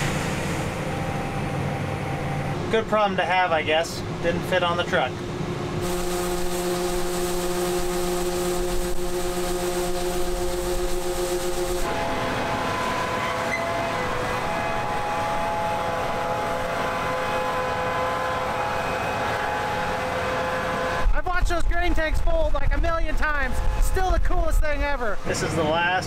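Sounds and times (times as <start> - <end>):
combine harvester whine: 0.0 - 21.7.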